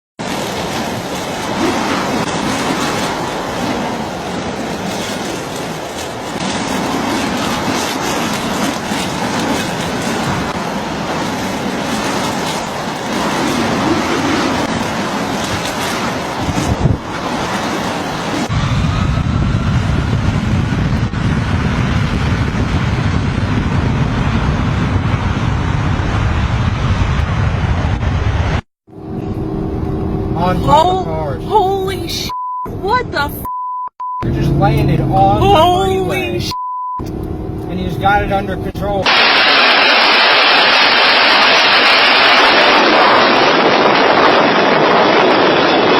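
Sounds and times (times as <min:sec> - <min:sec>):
vehicle rushing and rumbling: 0:00.2 - 0:45.9.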